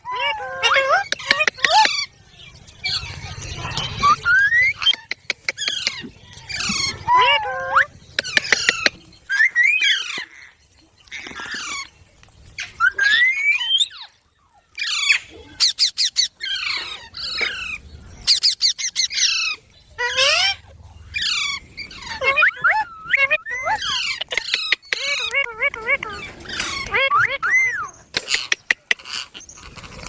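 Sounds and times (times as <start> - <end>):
parrots squawking: 0.0 - 2.1, 2.8 - 11.9, 14.8 - 29.9.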